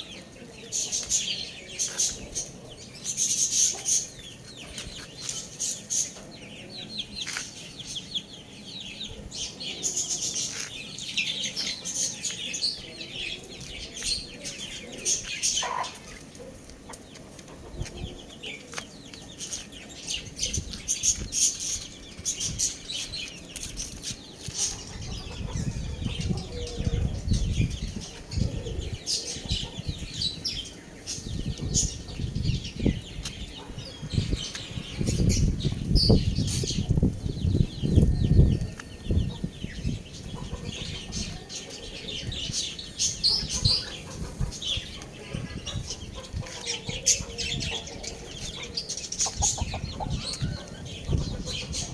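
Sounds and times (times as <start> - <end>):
chicks chirping and clucking: 0.0 - 51.9.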